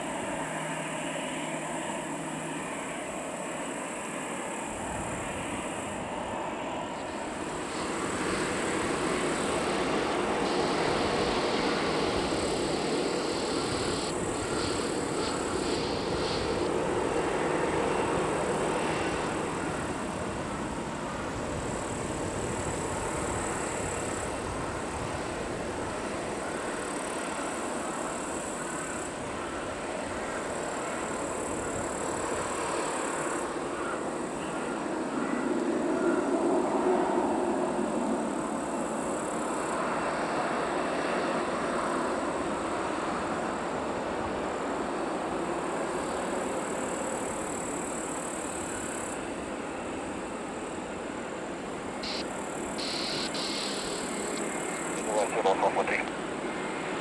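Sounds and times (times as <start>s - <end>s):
jet engines at taxi power: 0.0s - 57.0s.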